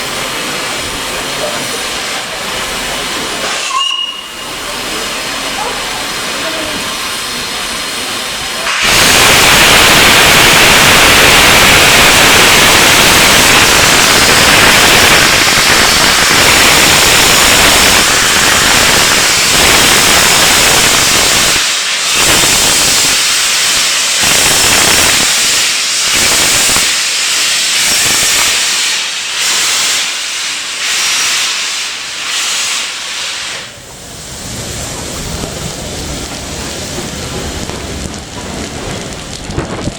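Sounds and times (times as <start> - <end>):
steam locomotive hissing steam: 0.0 - 39.0.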